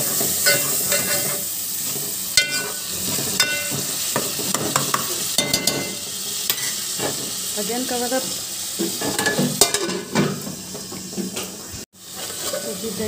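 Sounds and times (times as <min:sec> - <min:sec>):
masala sizzling: 0:00.0 - 0:13.0.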